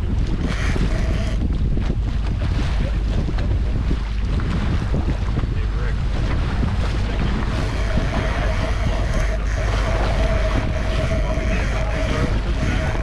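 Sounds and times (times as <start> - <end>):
boat engine drone: 0.0 - 13.0
water rushing past hull: 0.0 - 13.0
wind buffeting microphone: 0.0 - 13.0.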